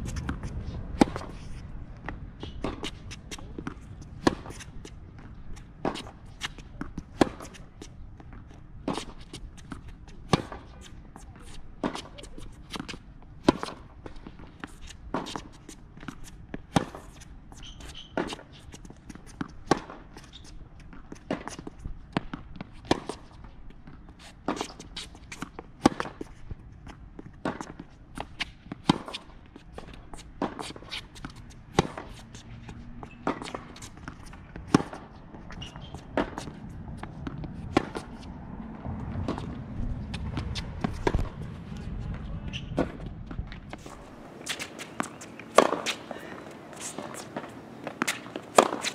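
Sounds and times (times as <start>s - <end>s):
tennis balls bouncing on a court: 0.0s - 48.9s
tennis balls struck by rackets: 0.1s - 17.2s, 19.4s - 20.2s, 21.1s - 26.3s, 27.2s - 48.9s.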